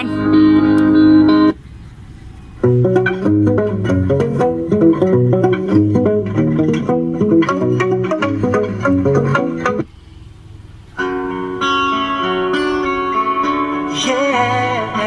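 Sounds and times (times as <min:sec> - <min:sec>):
instrumental guitar music: 0:00.0 - 0:15.0.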